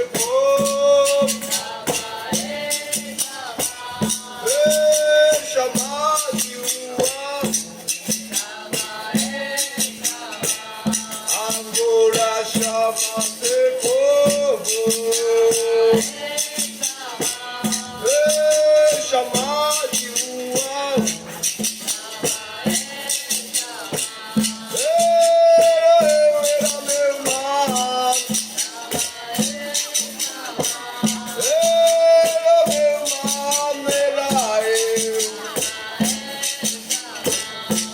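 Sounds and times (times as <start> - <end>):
group singing: 0.0 - 37.9
percussion rhythm: 0.0 - 37.9
shaker rattle: 0.0 - 37.9.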